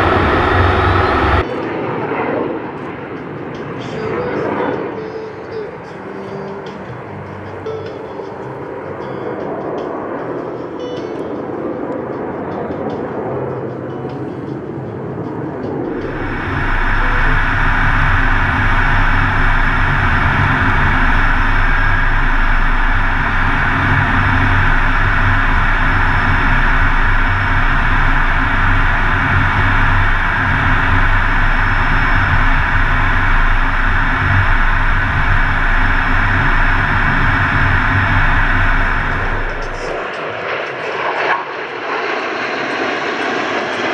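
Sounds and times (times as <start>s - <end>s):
jet engine and airflow rush: 0.0s - 43.9s
low hum: 0.0s - 43.9s.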